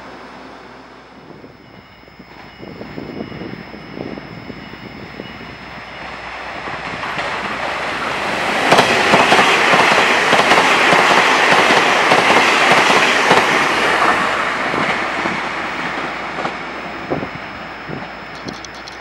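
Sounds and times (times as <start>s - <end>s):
train passing at speed: 0.0s - 18.4s.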